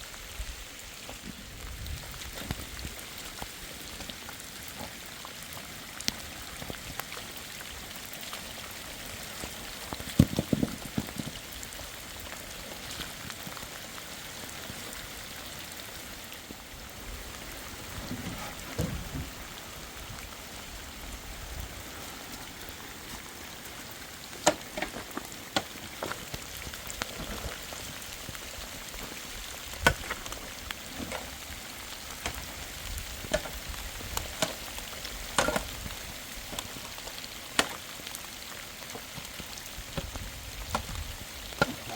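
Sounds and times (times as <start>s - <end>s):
rain hissing: 0.0s - 41.9s.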